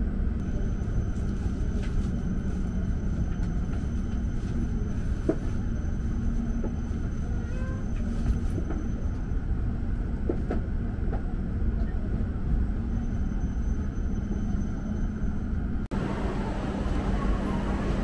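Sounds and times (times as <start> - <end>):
station platform rumble: 0.0 - 18.0.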